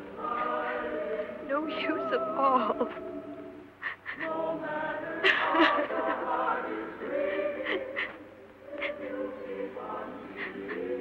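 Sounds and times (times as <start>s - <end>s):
wordless choir singing: 0.0s - 11.0s.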